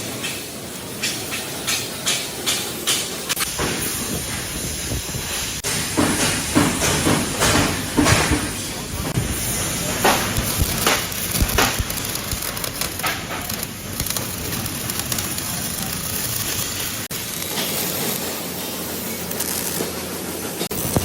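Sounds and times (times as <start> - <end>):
workshop din: 0.0 - 21.0.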